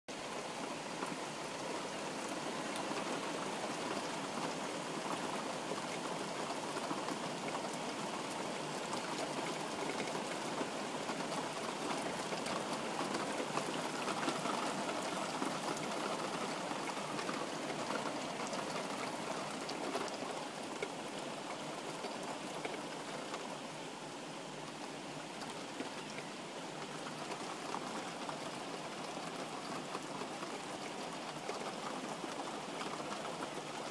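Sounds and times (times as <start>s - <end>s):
heavy rain on a tiled roof: 0.1s - 33.9s.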